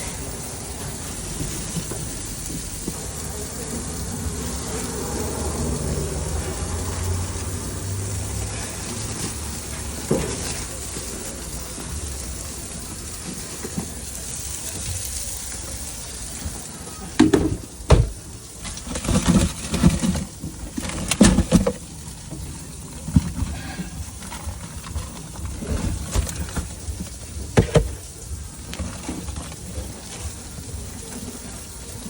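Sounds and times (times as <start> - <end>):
food sizzling on a griddle: 0.0 - 32.0.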